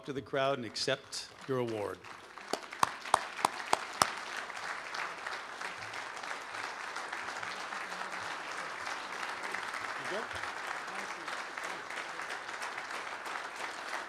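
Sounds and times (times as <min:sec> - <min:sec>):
audience applauding: 0:00.7 - 0:14.0
loud claps close to microphone: 0:01.2 - 0:14.0.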